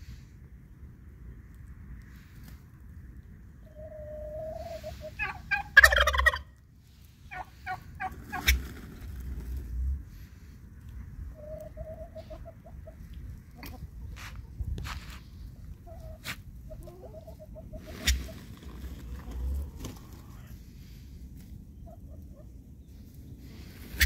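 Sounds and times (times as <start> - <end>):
chickens clucking and squawking: 3.4 - 24.0.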